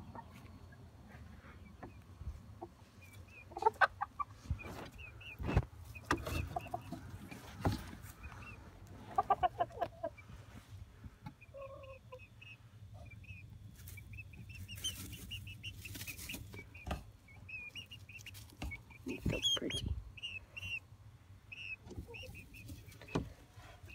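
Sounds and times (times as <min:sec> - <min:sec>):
young chickens clucking: 0:00.0 - 0:23.9
soft high peeping: 0:00.1 - 0:10.6, 0:11.3 - 0:23.9.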